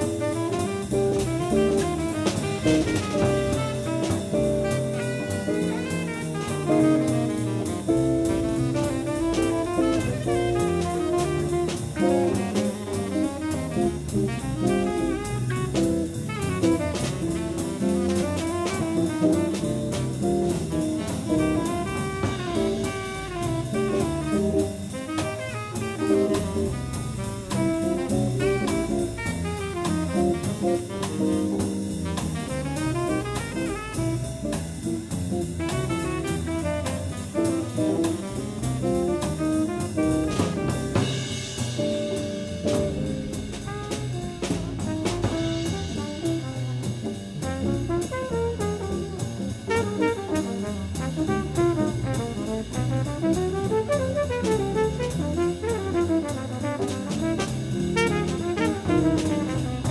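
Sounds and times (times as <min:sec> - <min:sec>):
double bass: 0:00.0 - 0:59.9
drum kit: 0:00.0 - 0:59.9
jazz guitar: 0:00.0 - 0:59.9
tenor saxophone solo: 0:00.0 - 0:59.9.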